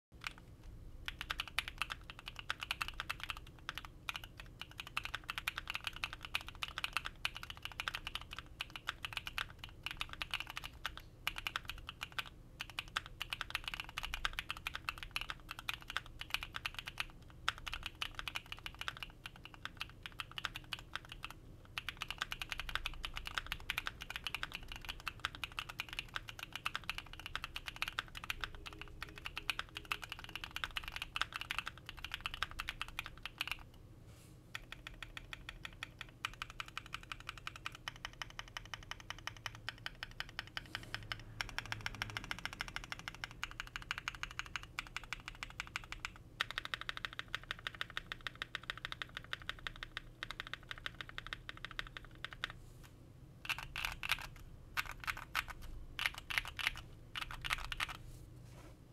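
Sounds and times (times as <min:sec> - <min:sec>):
mechanical keyboard typing: 0:00.2 - 0:33.7, 0:34.5 - 0:52.6, 0:53.4 - 0:58.0.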